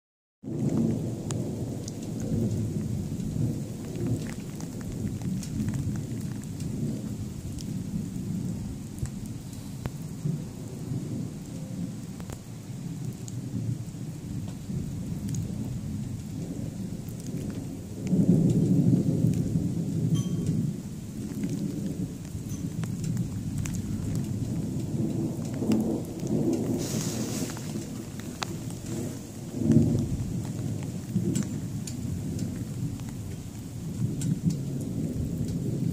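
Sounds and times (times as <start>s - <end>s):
rain pattering: 0.4s - 35.9s
thunder rumbling: 0.4s - 35.9s.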